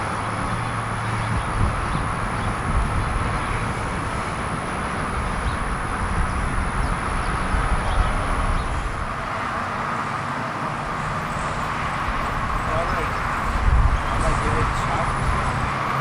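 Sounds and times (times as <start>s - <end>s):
traffic rumble and hum: 0.0s - 16.0s.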